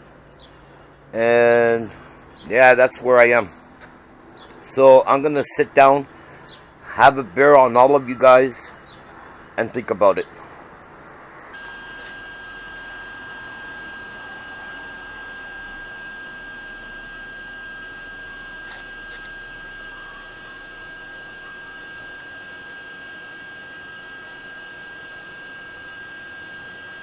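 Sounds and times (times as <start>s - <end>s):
steady electrical hum: 0.0s - 27.0s
thin high whine: 0.0s - 27.0s.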